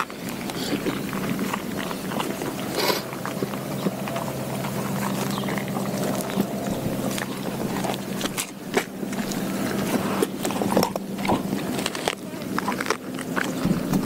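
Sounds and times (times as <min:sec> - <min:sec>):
dog crunching bones: 0:00.0 - 0:14.0
steady low hum: 0:00.0 - 0:14.0.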